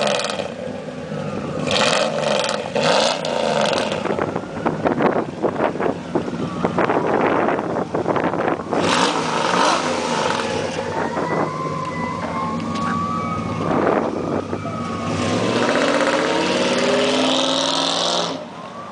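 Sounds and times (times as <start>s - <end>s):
loud truck exhaust revving: 0.0s - 5.1s, 6.8s - 18.5s.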